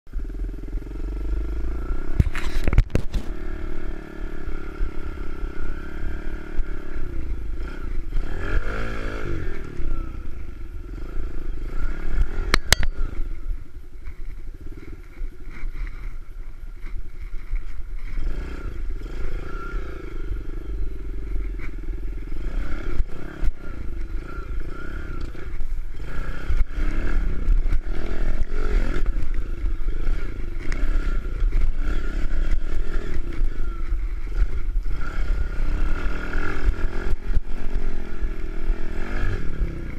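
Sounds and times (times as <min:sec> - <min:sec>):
small motorbike engine revving: 0:00.1 - 0:39.9.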